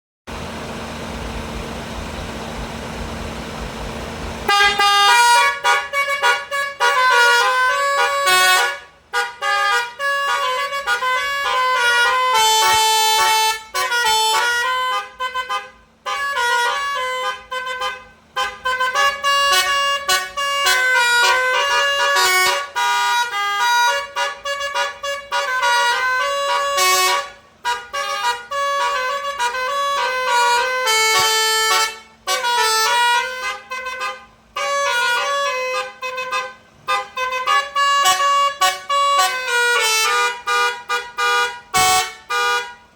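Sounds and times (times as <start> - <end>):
bus musical horn melody: 4.4 - 42.9.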